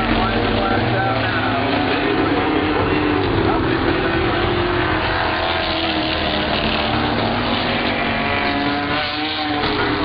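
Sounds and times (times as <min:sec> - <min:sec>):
race car engines passing: 0:00.0 - 0:10.0.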